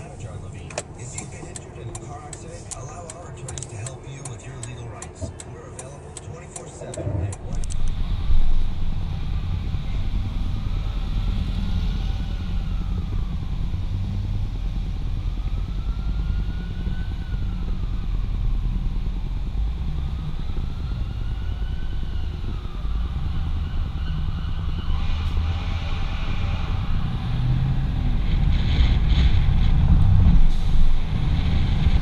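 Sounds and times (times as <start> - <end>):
car engine and road rumble: 0.0 - 32.0
faint whine: 0.0 - 32.0.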